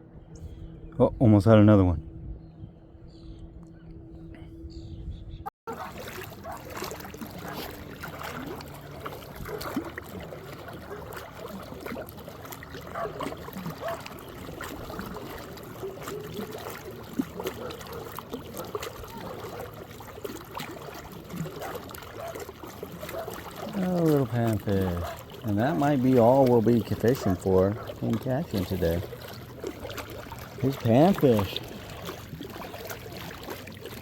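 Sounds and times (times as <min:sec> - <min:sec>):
water lapping around boat: 0:00.0 - 0:34.0
small splashes: 0:05.7 - 0:34.0.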